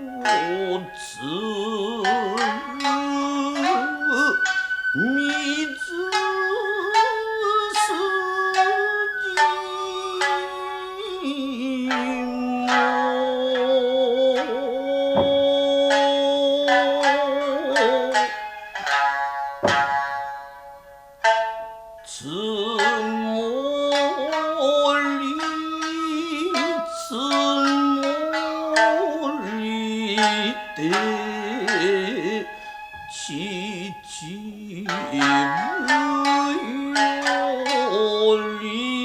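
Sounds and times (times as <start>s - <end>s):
plucked shamisen notes: 0.0s - 39.0s
wavering held melody notes: 0.0s - 39.0s.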